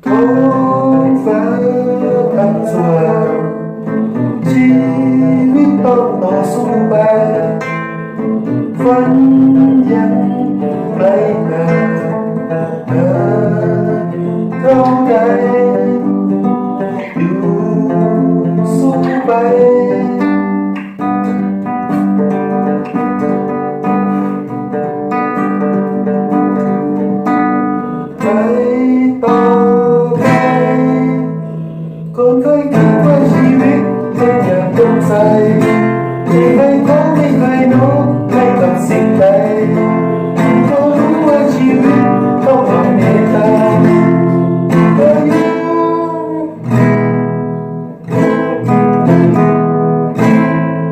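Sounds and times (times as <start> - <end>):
flamenco acoustic guitar music: 0.0 - 50.9.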